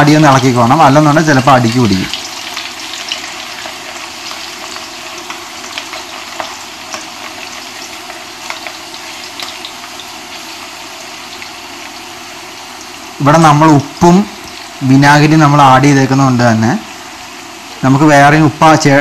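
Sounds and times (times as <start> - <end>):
potatoes deep-frying in oil: 0.0 - 19.0.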